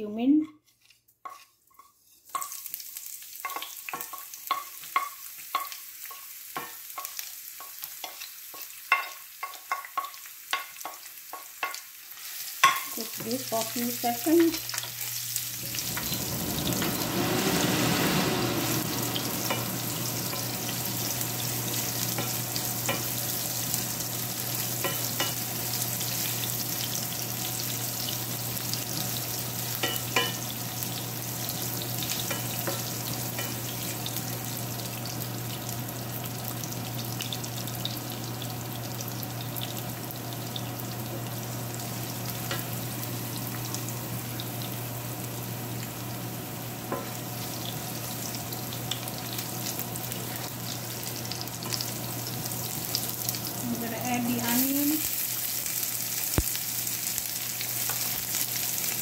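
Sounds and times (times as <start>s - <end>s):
spices sizzling in hot oil: 0.1s - 59.0s.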